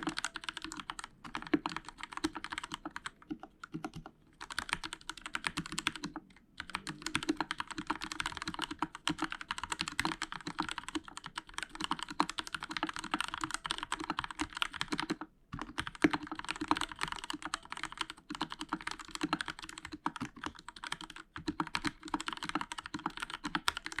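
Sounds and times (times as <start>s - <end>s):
fast mechanical keyboard typing: 0.0s - 24.0s.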